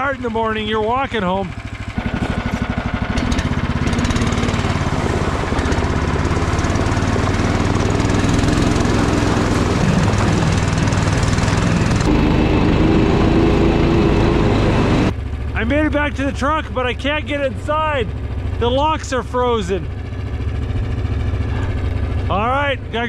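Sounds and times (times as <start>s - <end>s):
snow sled engine running: 0.0s - 23.0s.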